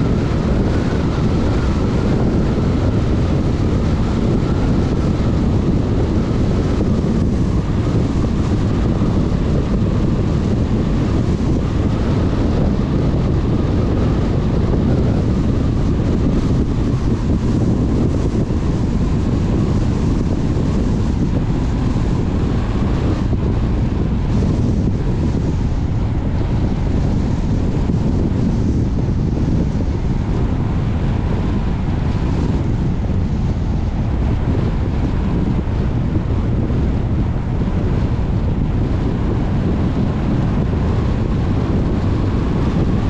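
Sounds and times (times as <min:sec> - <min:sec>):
car road and wind noise: 0:00.0 - 0:43.0.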